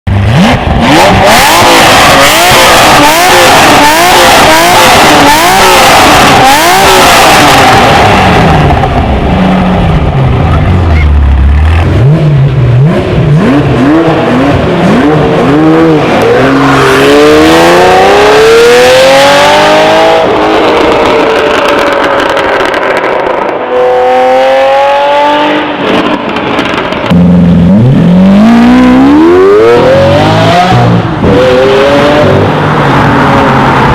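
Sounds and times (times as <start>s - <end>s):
car engine revving: 0.1s - 33.9s.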